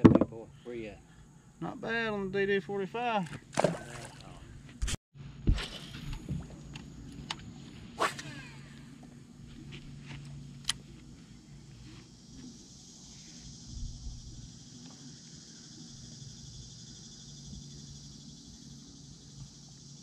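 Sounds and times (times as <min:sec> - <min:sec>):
low hum: 0:03.4 - 0:20.0.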